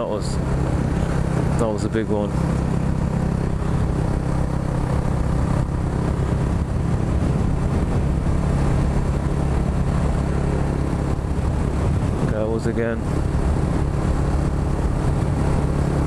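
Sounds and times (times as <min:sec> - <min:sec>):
motorcycle engine cruising: 0:00.0 - 0:16.0
rush of noise: 0:00.0 - 0:16.0.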